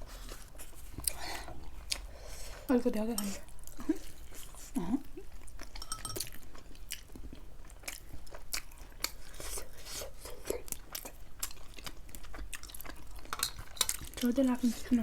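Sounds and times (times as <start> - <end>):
food being bitten and chewed: 0.0 - 2.6, 3.2 - 15.0.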